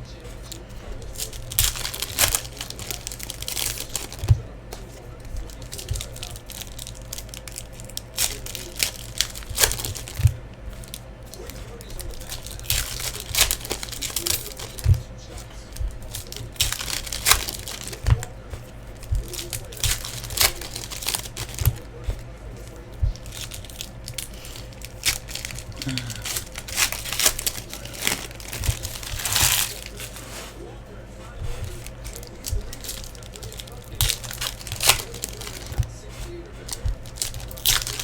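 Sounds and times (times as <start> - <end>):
card pack wrappers crinkling: 0.0 - 38.0.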